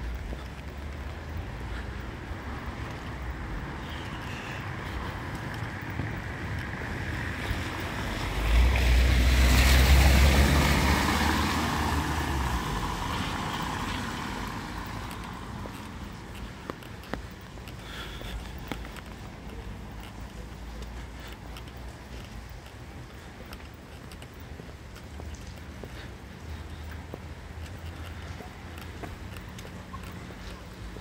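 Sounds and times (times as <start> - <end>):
car passing on wet street: 0.0 - 31.0.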